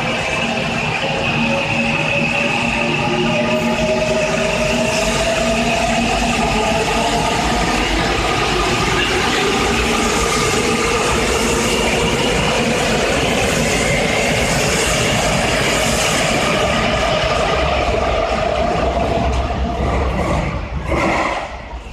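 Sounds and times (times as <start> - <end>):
steady whine: 0.0 - 21.9
subway train motors and wheels: 0.0 - 21.9.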